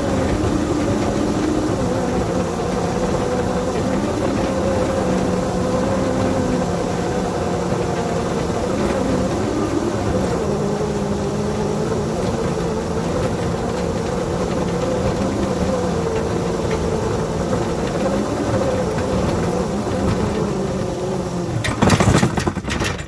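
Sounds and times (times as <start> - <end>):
small locomotive engine droning: 0.0 - 23.0.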